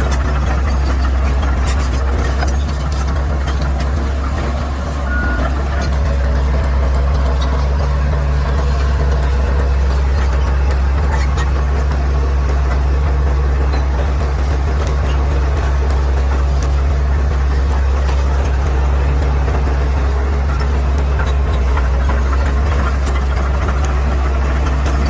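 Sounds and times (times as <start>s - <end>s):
bulldozer diesel engine droning: 0.0s - 25.0s.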